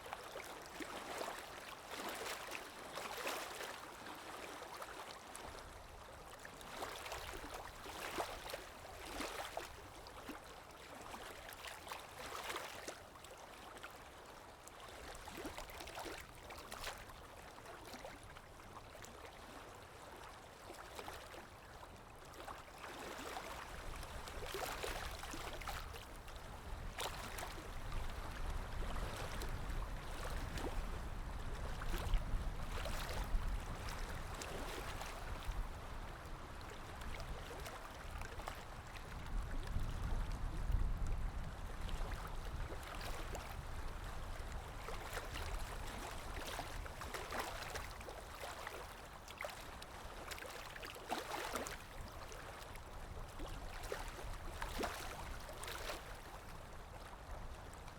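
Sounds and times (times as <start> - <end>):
calm waves lapping: 0.0 - 57.9.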